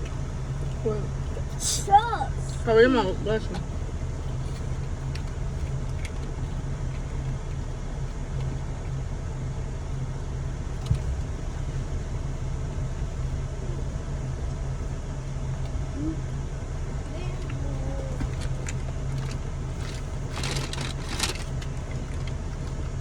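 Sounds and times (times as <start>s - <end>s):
car idling hum: 0.0s - 23.0s.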